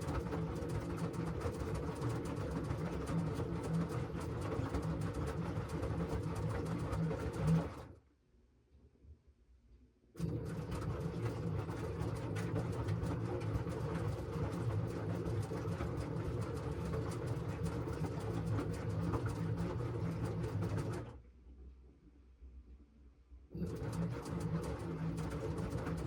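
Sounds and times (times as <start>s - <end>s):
washing machine motor hum: 0.0s - 8.0s, 10.2s - 21.2s, 23.5s - 26.0s.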